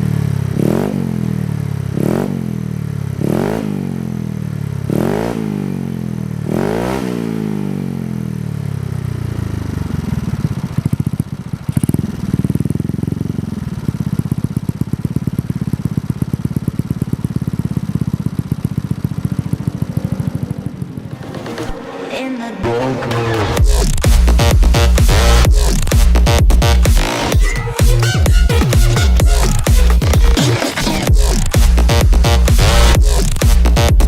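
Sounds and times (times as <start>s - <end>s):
scooter engine revving and idling: 0.0s - 21.9s, 22.6s - 34.0s.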